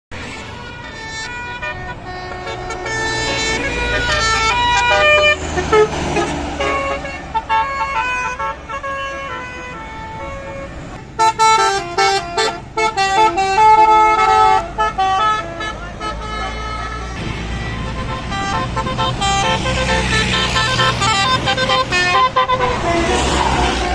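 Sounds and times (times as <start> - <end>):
bus horn playing a tune: 0.2 - 23.9.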